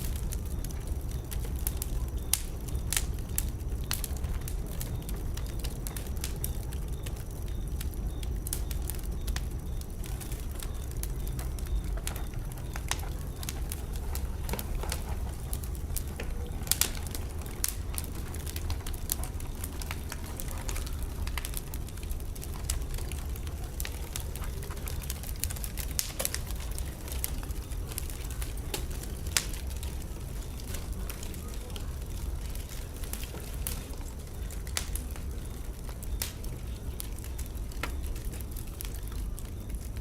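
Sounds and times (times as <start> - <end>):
fire crackles and pops: 0.0 - 40.0
wood fire rumbling: 0.0 - 40.0.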